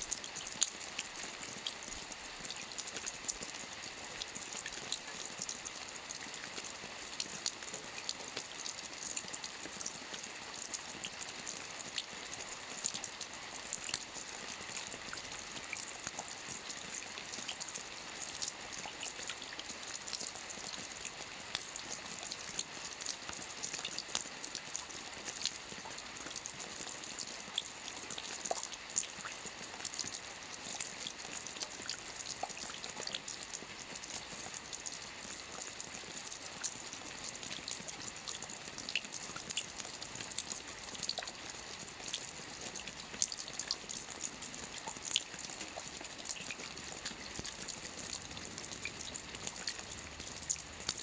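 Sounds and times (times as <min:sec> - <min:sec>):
rain falling: 0:00.1 - 0:51.0.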